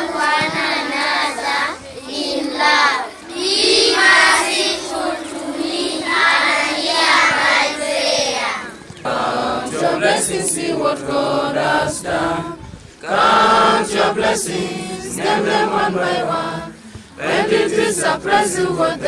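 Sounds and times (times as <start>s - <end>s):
boys singing together: 0.0s - 19.0s
children chanting in unison: 0.0s - 19.0s.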